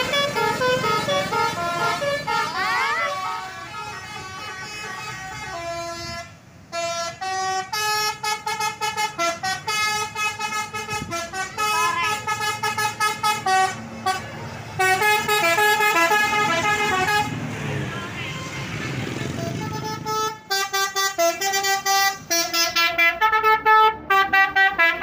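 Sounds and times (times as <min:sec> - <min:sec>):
bus multi-tone horn playing a tune: 0:00.0 - 0:25.0
low traffic rumble: 0:00.0 - 0:25.0.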